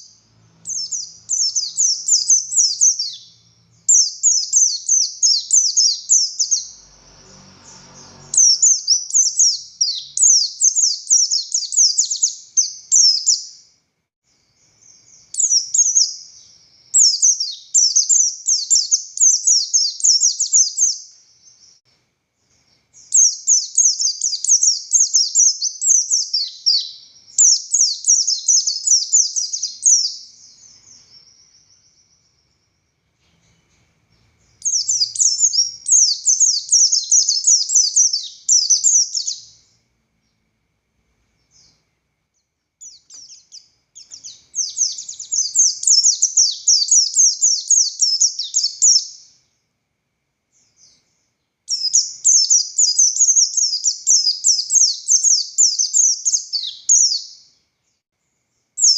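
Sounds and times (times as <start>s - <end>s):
bird twittering: 0.0s - 6.8s, 7.6s - 13.7s, 14.5s - 21.8s, 22.9s - 32.9s, 34.4s - 39.8s, 42.8s - 49.4s, 51.7s - 57.6s.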